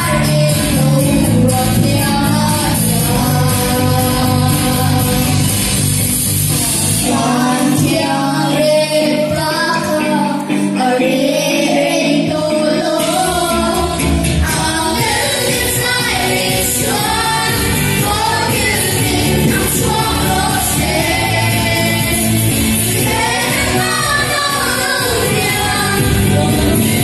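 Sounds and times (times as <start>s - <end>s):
group singing through a pa: 0.0s - 5.8s, 6.6s - 27.0s
electric guitar and band: 0.0s - 27.0s.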